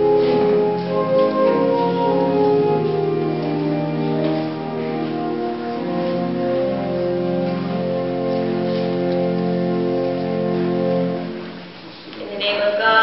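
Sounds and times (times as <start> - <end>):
church organ held chords: 0.0 - 11.8.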